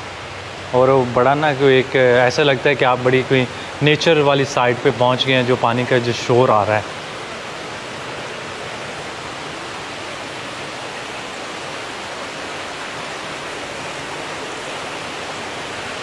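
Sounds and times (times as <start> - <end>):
water rushing along channel: 0.0 - 16.0.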